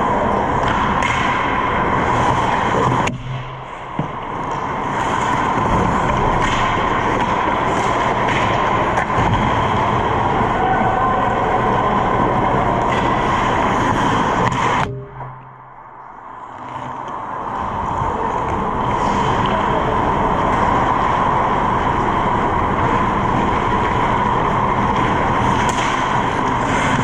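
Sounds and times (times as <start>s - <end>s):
ice rink rushing noise: 0.0s - 14.9s, 16.1s - 27.0s.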